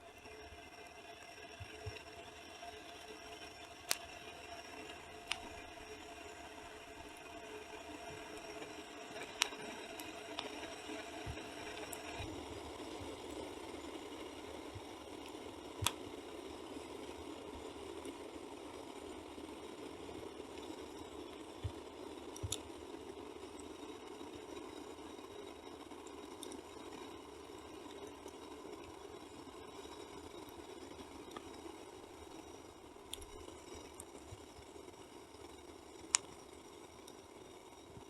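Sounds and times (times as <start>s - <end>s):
burning wood crackling pops: 1.6s - 18.2s, 19.8s - 25.3s, 27.7s - 38.0s.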